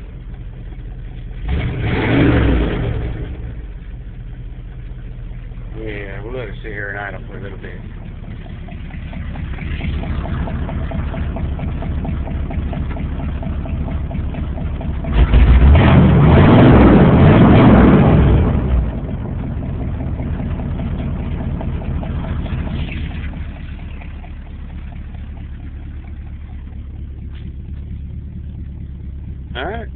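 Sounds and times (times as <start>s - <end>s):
pickup truck engine idling: 0.0s - 29.9s.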